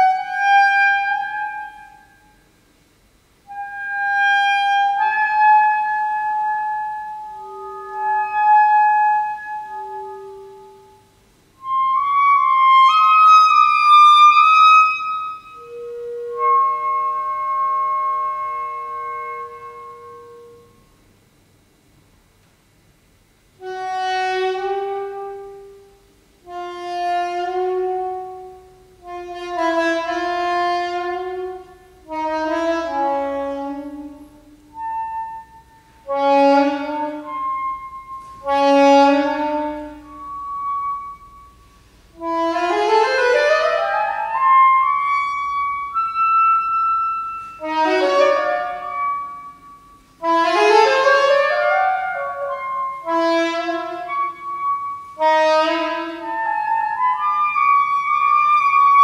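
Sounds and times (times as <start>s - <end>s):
solo saxophone: 0.0s - 2.4s, 3.4s - 21.0s, 23.6s - 59.0s.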